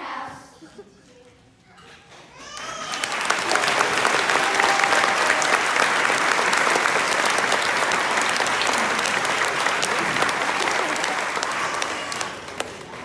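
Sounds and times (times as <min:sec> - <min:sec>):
audience applause: 0:02.5 - 0:13.0.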